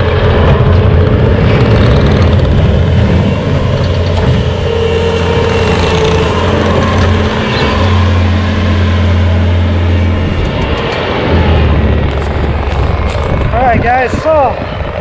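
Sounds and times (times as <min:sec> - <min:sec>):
loader engine droning: 0:00.0 - 0:14.0.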